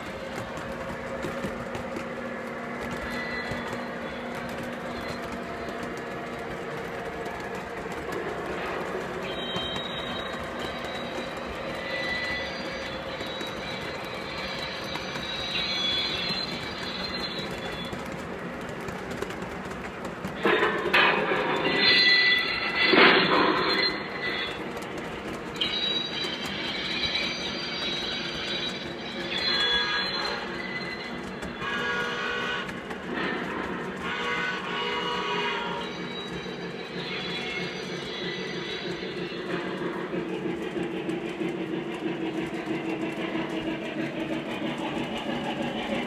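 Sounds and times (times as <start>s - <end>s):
model train wheels rumbling: 0.0s - 46.0s.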